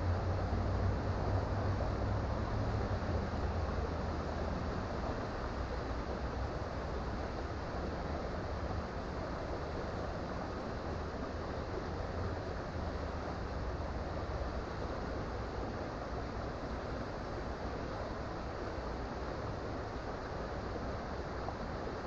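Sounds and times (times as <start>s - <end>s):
creek water running: 0.0s - 22.0s.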